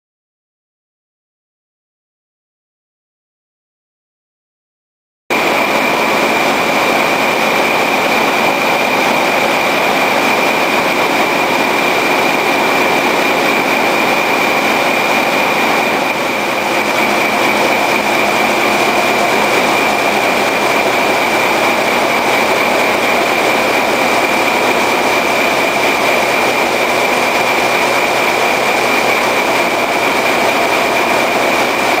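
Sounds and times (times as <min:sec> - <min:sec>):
diesel engines running: 0:05.3 - 0:32.0
high mechanical whine: 0:05.3 - 0:32.0.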